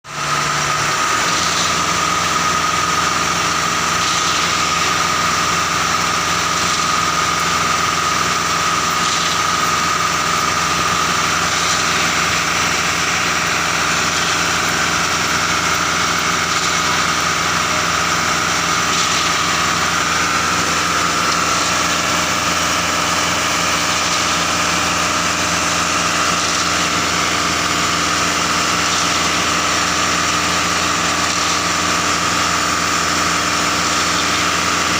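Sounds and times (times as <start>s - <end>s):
truck engine running: 0.1s - 34.9s
high whine: 1.2s - 34.9s.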